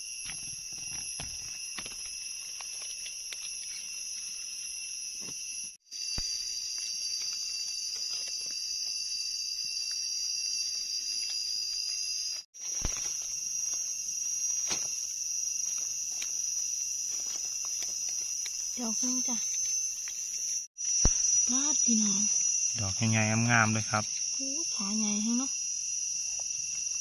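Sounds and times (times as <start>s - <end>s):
forest insects droning: 0.0s - 27.0s.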